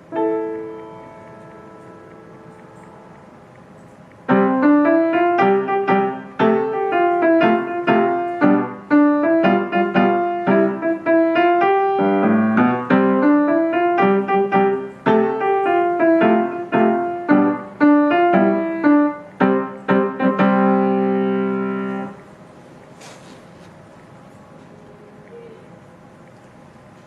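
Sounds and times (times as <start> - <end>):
piano playing: 0.0 - 22.5.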